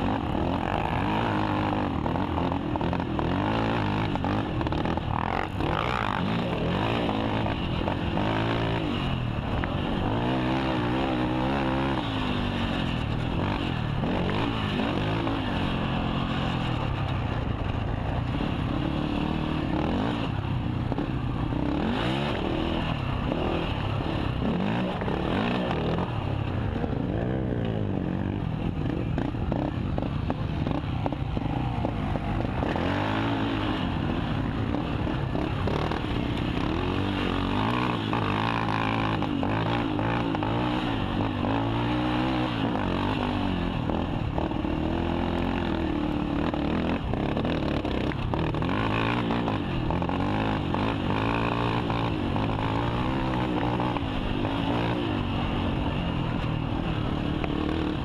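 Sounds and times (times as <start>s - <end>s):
quad engine revving: 0.0s - 16.9s, 18.4s - 55.9s.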